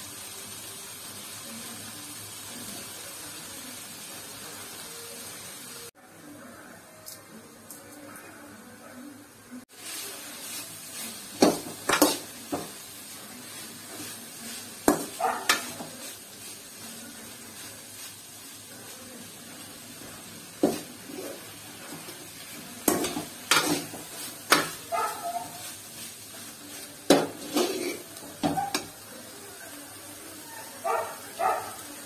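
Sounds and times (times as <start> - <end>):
fish sizzling in pan: 0.0 - 5.9, 9.6 - 32.0.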